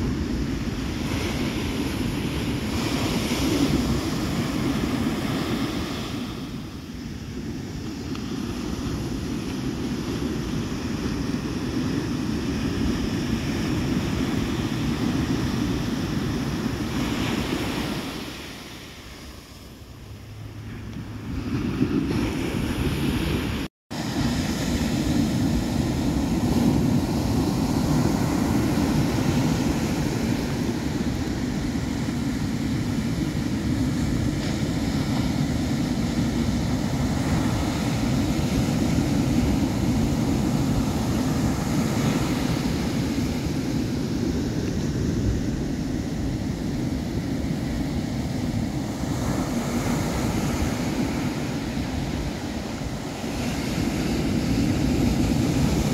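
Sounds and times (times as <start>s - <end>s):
ocean surf breaking: 0.0s - 55.9s
wind rumbling on microphone: 0.0s - 55.9s.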